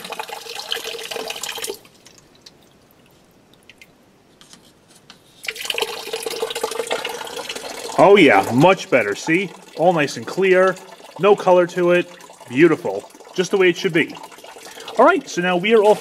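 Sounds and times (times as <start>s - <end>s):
water splashing into a floor drain: 0.0s - 2.6s, 5.4s - 16.0s
faint dripping: 0.1s - 4.0s, 5.4s - 16.0s.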